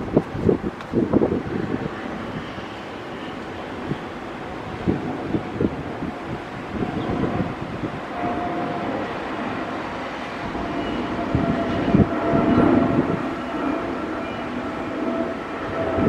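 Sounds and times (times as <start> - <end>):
faint steady tones: 1.5 - 16.0.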